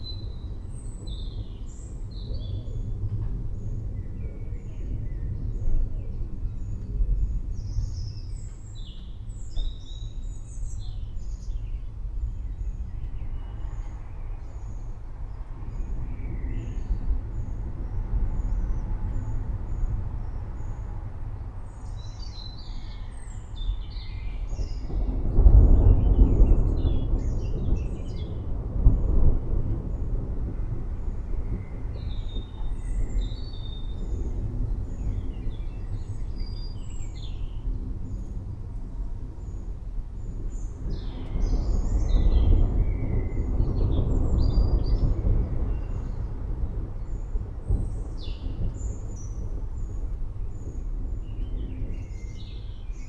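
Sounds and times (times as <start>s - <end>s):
thunder rumbling: 0.0s - 53.0s.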